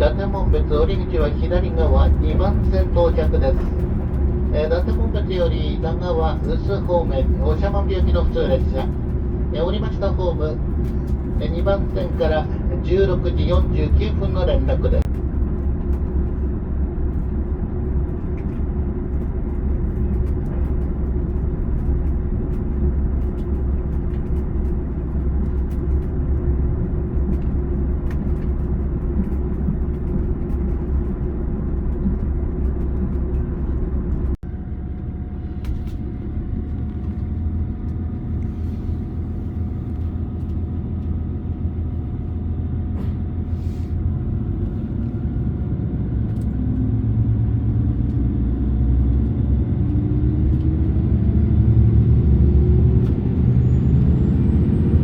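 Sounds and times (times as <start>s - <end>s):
diesel railcar engine rumble: 0.0s - 55.0s.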